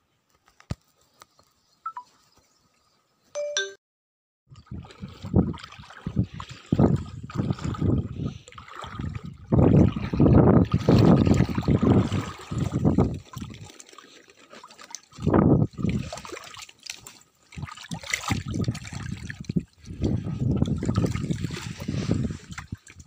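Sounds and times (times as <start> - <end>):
water sloshing and splashing: 4.5 - 23.0.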